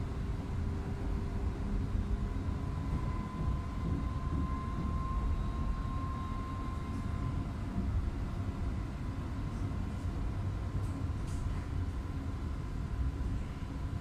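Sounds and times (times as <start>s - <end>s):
thin steady whine: 0.0s - 14.0s
tram rumble from inside: 0.0s - 14.0s.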